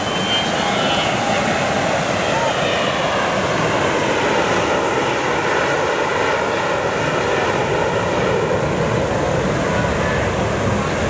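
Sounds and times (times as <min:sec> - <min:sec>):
jet flying overhead: 0:00.0 - 0:11.0.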